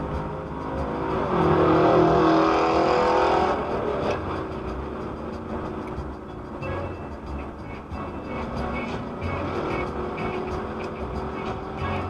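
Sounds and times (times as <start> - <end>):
road vehicle noise: 0.0 - 12.0.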